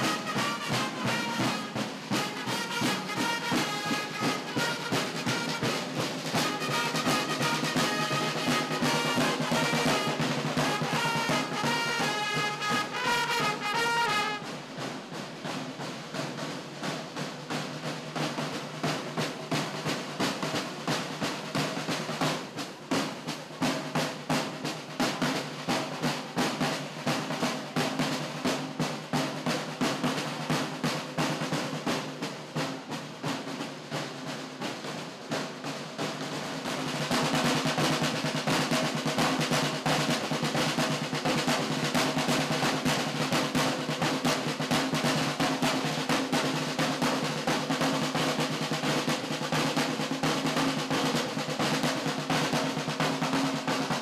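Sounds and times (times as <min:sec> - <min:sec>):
field drums beating fast rhythm: 0:00.0 - 0:54.0.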